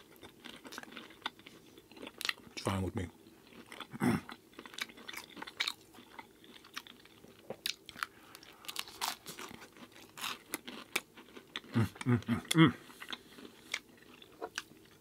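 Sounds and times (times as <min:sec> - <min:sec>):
person chewing food: 0:00.0 - 0:02.6, 0:03.2 - 0:15.0.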